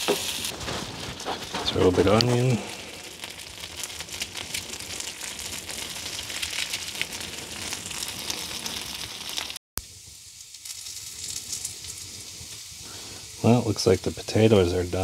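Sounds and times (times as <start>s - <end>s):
potatoes sizzling in a frying pan: 0.0s - 0.5s, 1.1s - 15.0s.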